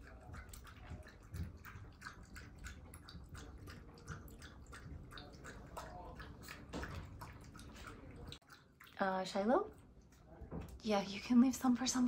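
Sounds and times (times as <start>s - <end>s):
dog lapping water: 0.0s - 12.0s.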